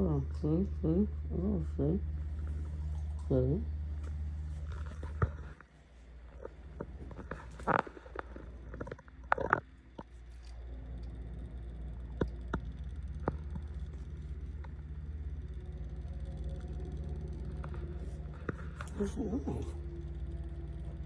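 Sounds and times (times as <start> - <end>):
low pulsing humming rumble: 0.0 - 21.0.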